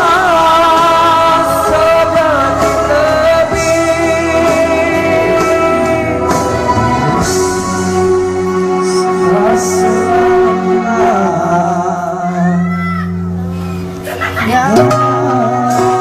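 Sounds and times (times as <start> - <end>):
backing music: 0.0 - 16.0.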